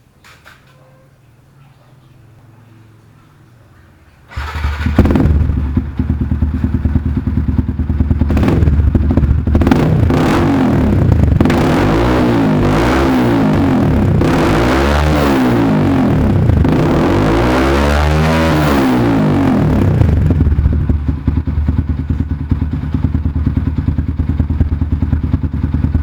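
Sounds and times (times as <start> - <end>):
motorcycle engine revving: 4.3 - 26.0.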